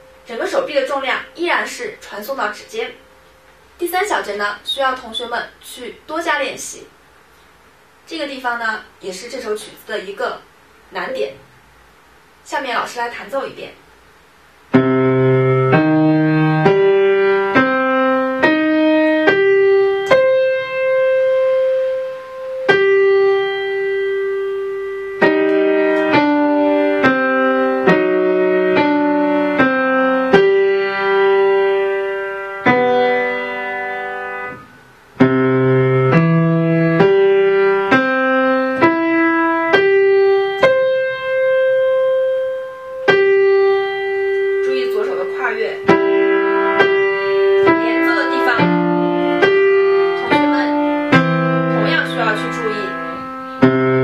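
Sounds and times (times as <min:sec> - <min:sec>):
piano playing simple piece: 0:00.0 - 0:04.5, 0:14.7 - 0:54.0.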